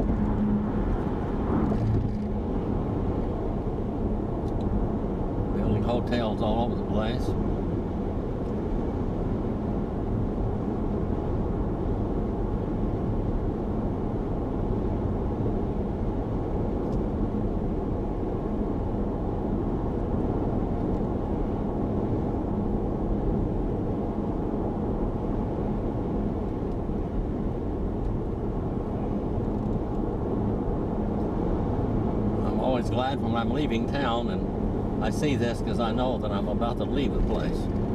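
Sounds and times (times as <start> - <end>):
car road and engine noise: 0.0 - 37.9.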